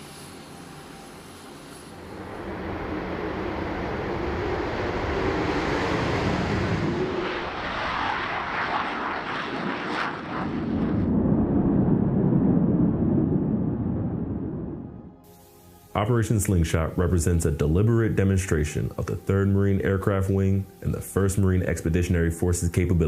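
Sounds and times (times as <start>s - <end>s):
military aircraft engine rush: 0.0s - 23.0s.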